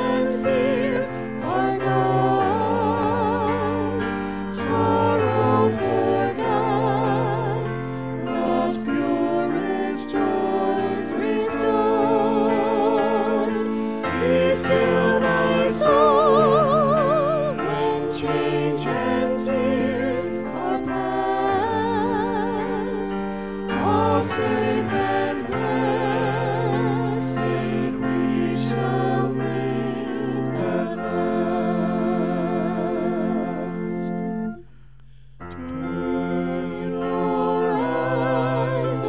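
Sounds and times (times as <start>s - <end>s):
voices singing a hymn: 0.0s - 34.6s, 35.4s - 39.0s
sustained instrumental accompaniment: 0.0s - 39.0s.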